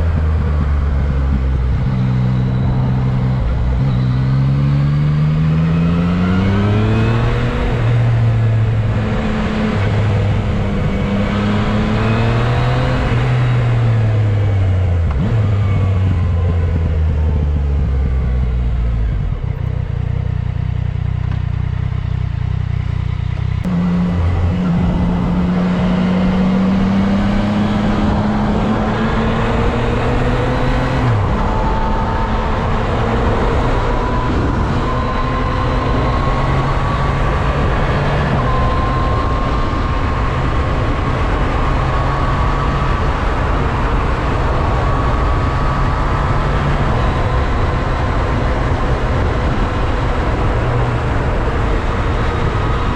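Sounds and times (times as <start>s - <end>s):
motorcycle engine accelerating: 0.0s - 52.9s
wind and road noise: 0.0s - 52.9s.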